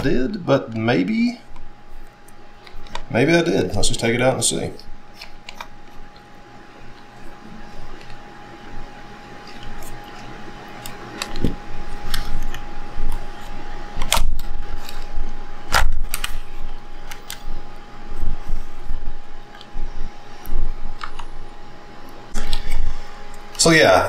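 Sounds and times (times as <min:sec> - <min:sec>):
small fan humming: 0:00.0 - 0:24.0.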